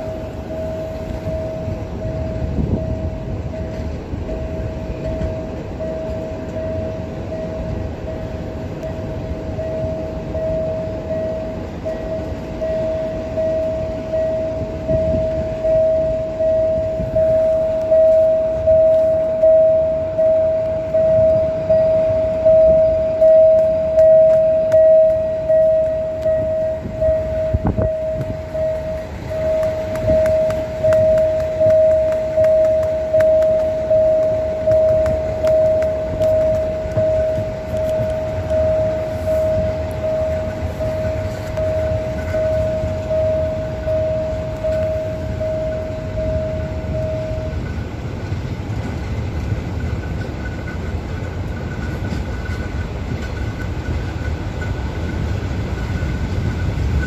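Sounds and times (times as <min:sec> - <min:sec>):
pulsing beat: 0:00.0 - 0:48.2
crossing warning signal tone: 0:00.0 - 0:57.0
train rumbling past: 0:00.0 - 0:57.0.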